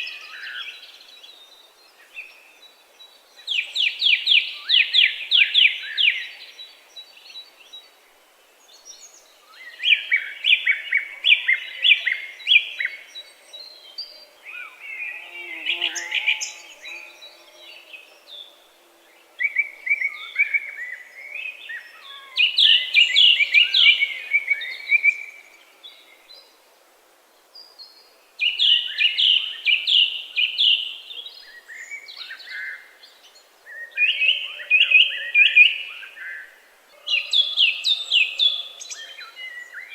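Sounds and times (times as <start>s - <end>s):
songbird singing: 0.0s - 26.6s, 27.4s - 39.9s.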